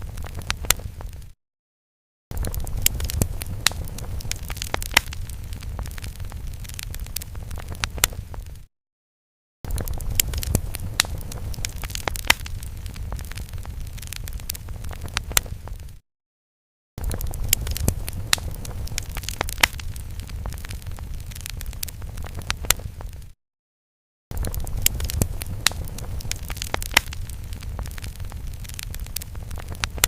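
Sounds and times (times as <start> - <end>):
fire crackling with pops: 0.0 - 1.4, 2.3 - 8.7, 9.7 - 16.0, 17.0 - 23.4, 24.3 - 30.0.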